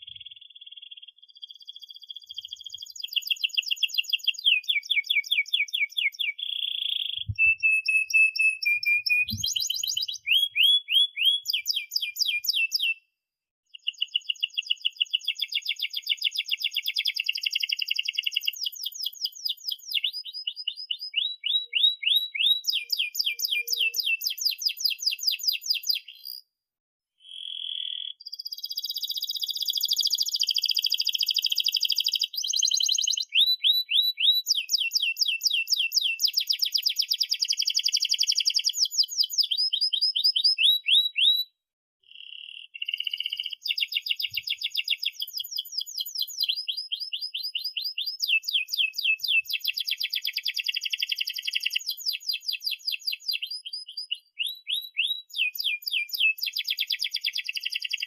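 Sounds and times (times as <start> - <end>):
canary singing trills: 0.0 - 13.0, 13.7 - 26.4, 27.2 - 58.0.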